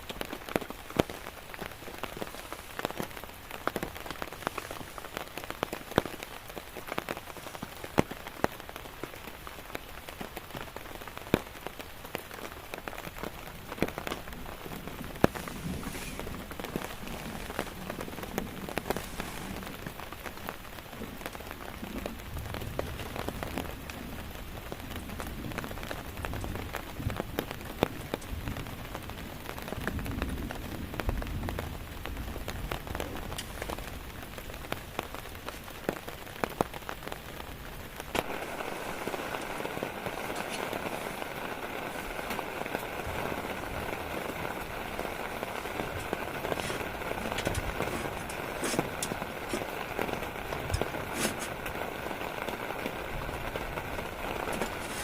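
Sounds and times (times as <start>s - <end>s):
rain falling on a tent: 0.0s - 55.0s.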